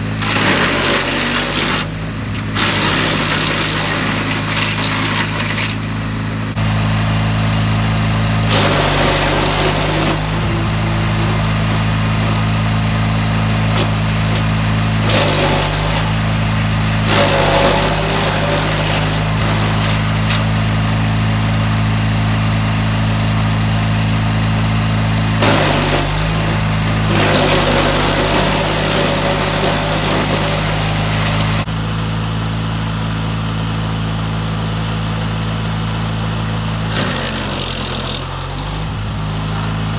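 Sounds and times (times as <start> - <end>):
blades chipping branches: 0.0 - 31.7, 36.9 - 38.4
wood chipper engine running: 0.0 - 39.9.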